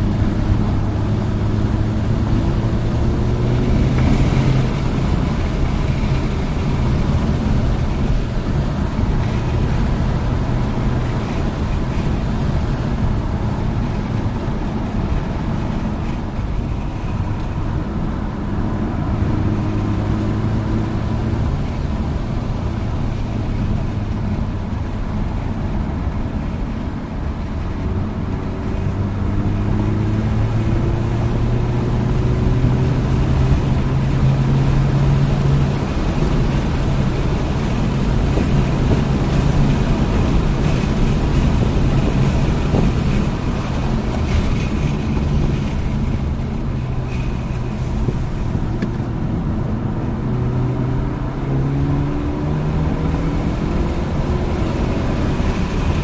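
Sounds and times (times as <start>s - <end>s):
car engine while driving: 0.0s - 56.0s
tyre and wind noise: 0.0s - 56.0s.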